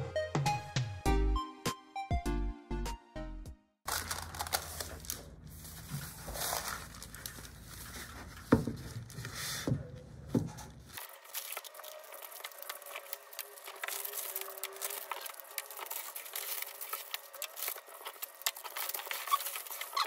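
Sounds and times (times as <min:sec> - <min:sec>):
thin sheet rustling and crinkling: 0:03.9 - 0:20.0.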